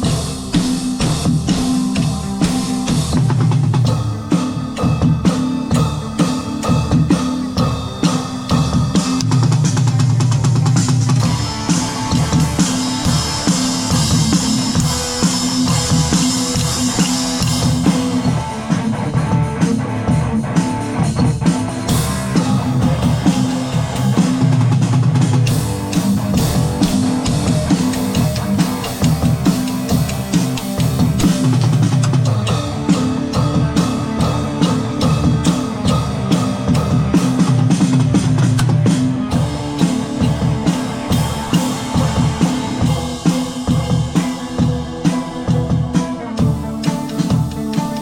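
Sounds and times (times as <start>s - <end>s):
drum kit playing: 0.0s - 48.0s
low guitar riff: 1.0s - 48.0s.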